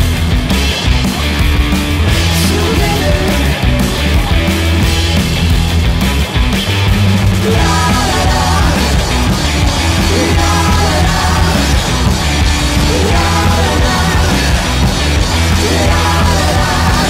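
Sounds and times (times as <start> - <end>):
rock music with vocals: 0.0 - 17.0.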